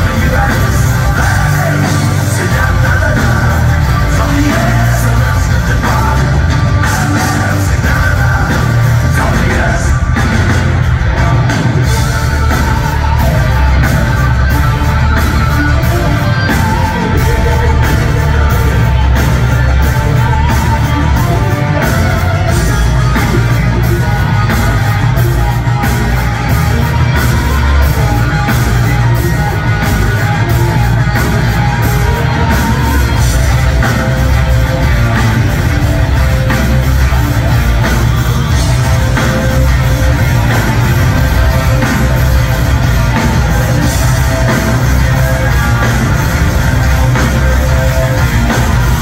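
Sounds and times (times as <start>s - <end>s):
drums: 0.0s - 49.0s
electric guitar: 0.0s - 49.0s
live rock music: 0.0s - 49.0s.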